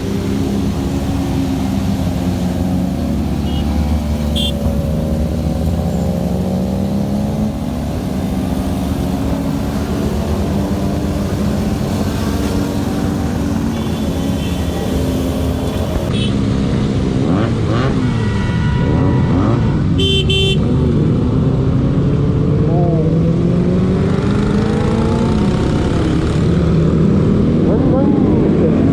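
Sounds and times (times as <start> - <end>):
motorcycle engines running: 0.0 - 28.9.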